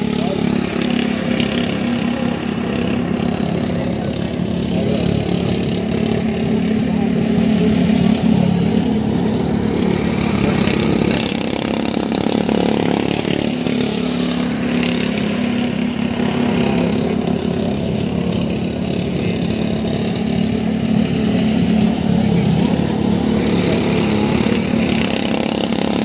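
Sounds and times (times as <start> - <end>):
racing lawn mower engines: 0.0 - 26.0.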